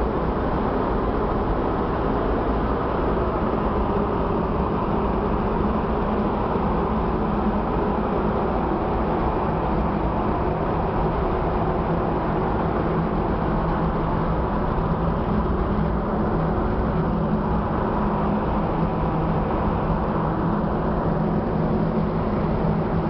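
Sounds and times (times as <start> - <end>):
wind and sea rushing: 0.0 - 23.0
ship machinery hum: 0.1 - 23.0.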